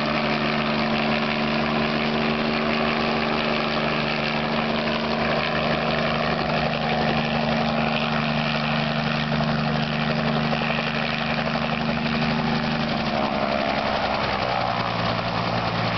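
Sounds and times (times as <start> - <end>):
helicopter engine and rotor chop: 0.0 - 15.9.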